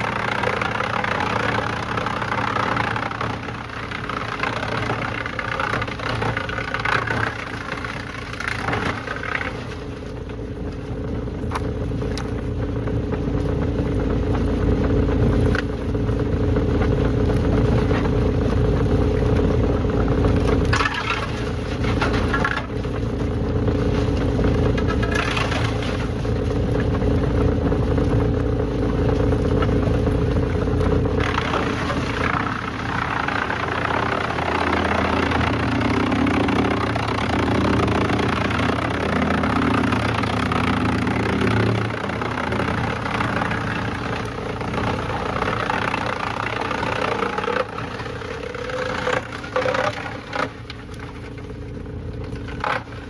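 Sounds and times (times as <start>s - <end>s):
engine-like drone: 0.0s - 53.0s
heavy machinery deep rumble: 0.0s - 53.0s.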